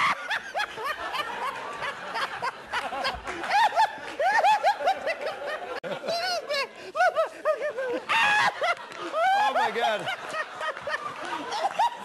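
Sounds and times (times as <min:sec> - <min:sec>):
people laughing and snickering: 0:00.0 - 0:12.0.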